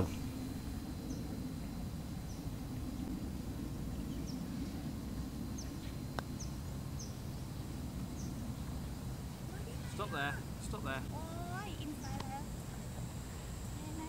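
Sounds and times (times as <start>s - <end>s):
low outdoor background: 0.0s - 14.0s.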